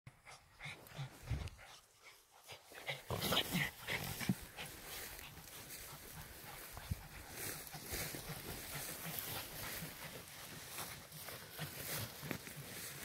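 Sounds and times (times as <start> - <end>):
dog panting: 0.1 - 13.0
grass rustling: 0.6 - 13.0.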